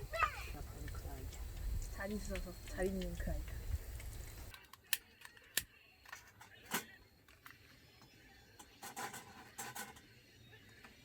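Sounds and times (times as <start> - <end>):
faint background noise: 0.0 - 11.0.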